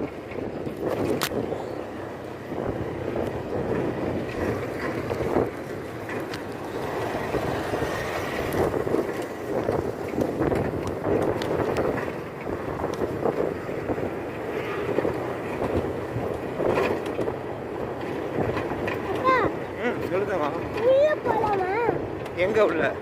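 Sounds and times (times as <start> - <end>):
vehicle rumble in motion: 0.0 - 23.0
wind buffeting microphone: 0.0 - 23.0.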